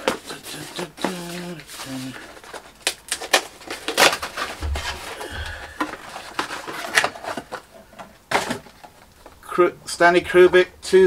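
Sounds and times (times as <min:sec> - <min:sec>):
hands handling disc cases: 0:00.0 - 0:09.4.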